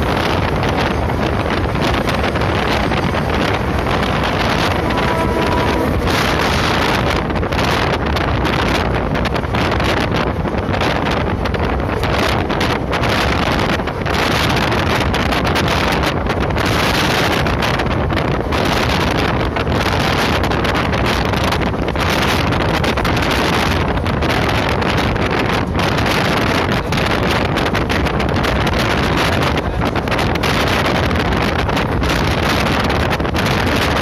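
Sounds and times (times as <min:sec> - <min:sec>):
train running noise: 0:00.0 - 0:34.0
wind buffeting microphone: 0:00.0 - 0:34.0.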